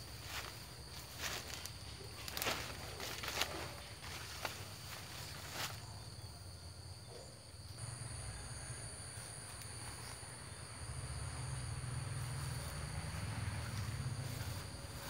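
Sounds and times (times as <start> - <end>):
higher insect trill: 0.0 - 15.0
insects trilling: 0.0 - 15.0.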